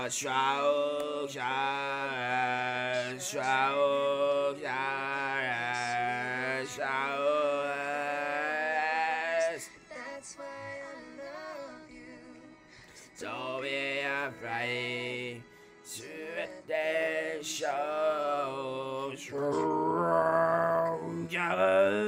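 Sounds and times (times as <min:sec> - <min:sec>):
person singing a slow ballad: 0:00.0 - 0:22.0
soft sustained accompaniment: 0:00.0 - 0:22.0.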